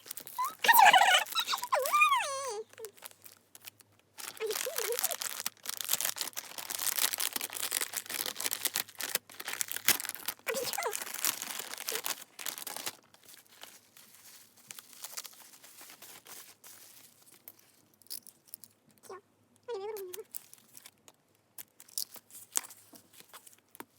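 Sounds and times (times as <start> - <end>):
plastic packaging crinkling and tearing: 0.0 - 18.7, 20.0 - 23.9.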